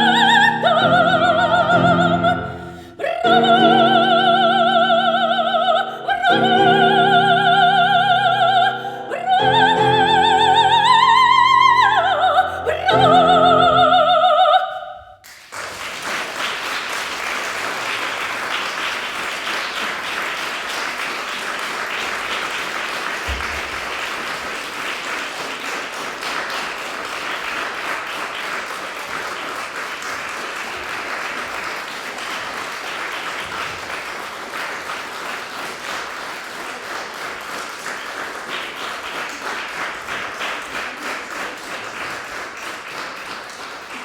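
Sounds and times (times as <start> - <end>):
audience applauding: 0.0 - 12.0, 15.2 - 44.0.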